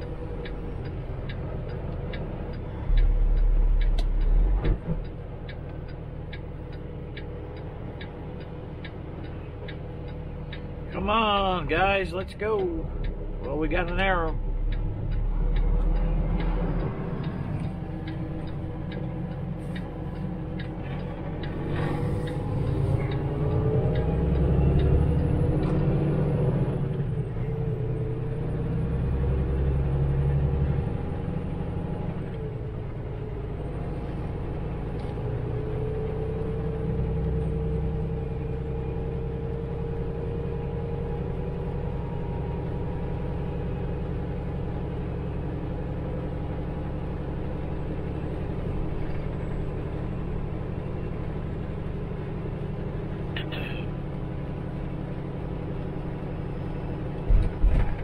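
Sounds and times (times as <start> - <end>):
truck diesel engine accelerating: 0.0 - 58.0.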